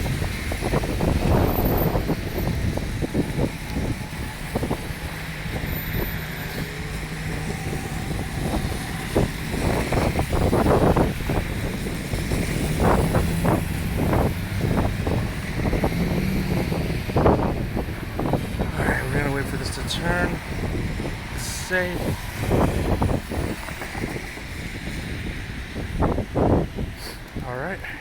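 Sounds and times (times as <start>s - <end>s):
traffic engines humming: 0.0s - 28.0s
wind buffeting microphone: 0.0s - 28.0s.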